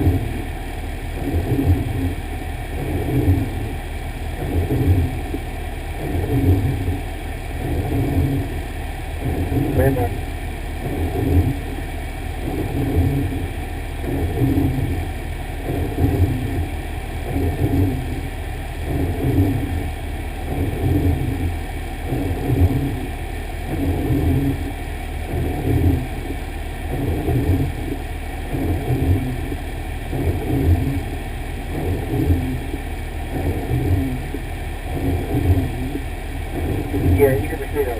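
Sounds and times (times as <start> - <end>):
fire engine running: 0.0 - 1.5, 2.1 - 37.9.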